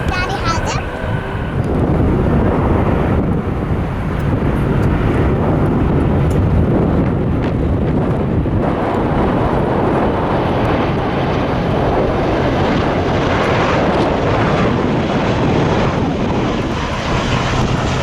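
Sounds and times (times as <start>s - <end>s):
jet airliner rumble: 0.0s - 18.0s
wind buffeting microphone: 0.0s - 18.0s.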